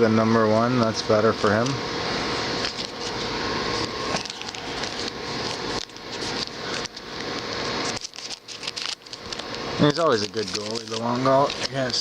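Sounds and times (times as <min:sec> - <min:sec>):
cards rustling and shuffling: 0:01.4 - 0:01.8, 0:02.6 - 0:12.0.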